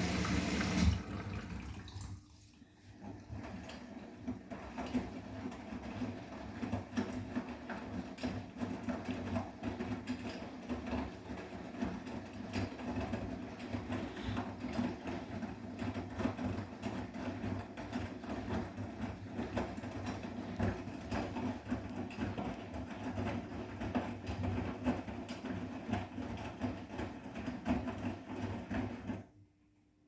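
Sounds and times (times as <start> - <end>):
washing machine rumbling: 0.0 - 29.4.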